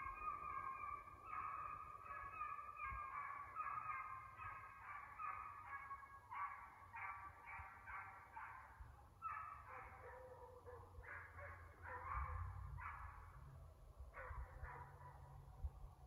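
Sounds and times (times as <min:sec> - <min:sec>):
faint hounds baying: 0:00.0 - 0:13.4, 0:14.1 - 0:15.5.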